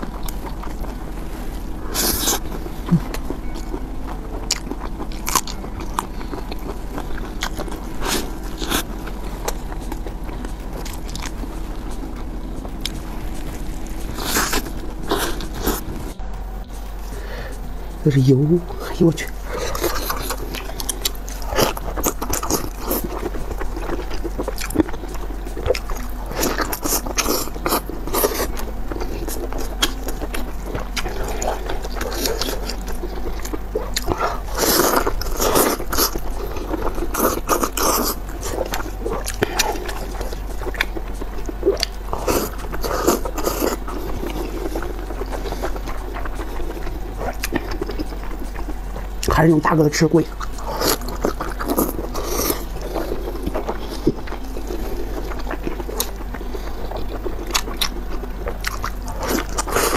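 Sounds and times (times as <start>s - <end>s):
wet chewing and smacking: 0.0s - 16.2s, 18.7s - 59.9s.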